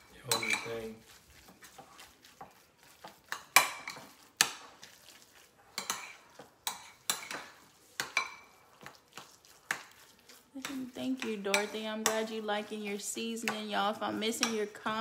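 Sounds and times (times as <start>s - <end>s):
utensil scraping a bowl: 0.0s - 15.0s.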